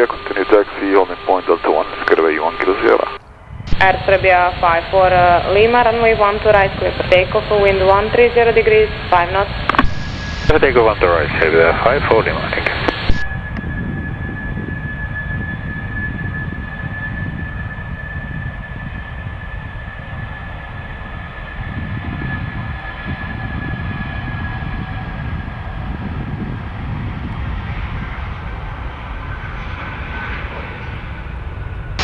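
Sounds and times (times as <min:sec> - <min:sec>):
jet engines at takeoff: 0:00.0 - 0:32.0.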